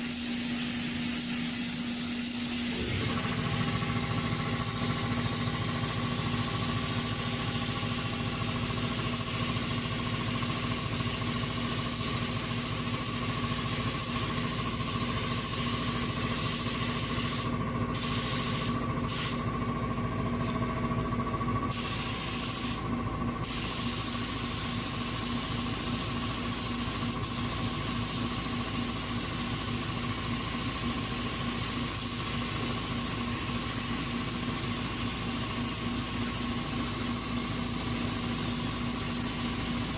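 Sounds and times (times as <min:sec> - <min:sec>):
spray gun hissing: 0:00.0 - 0:19.4, 0:21.7 - 0:22.8, 0:23.4 - 0:39.9
steady motor hum: 0:00.0 - 0:39.9.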